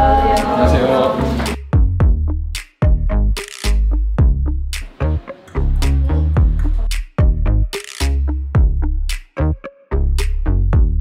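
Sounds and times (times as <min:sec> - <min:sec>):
electronic music with drum-machine beat: 0:01.3 - 0:11.0.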